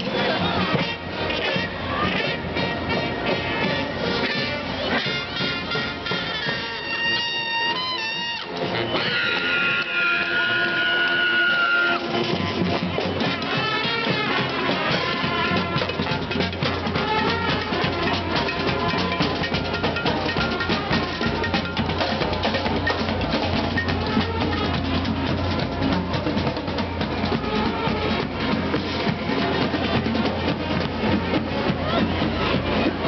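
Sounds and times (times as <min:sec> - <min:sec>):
snare and bass drum beating: 0:00.0 - 0:33.0
street parade band playing: 0:00.0 - 0:33.0.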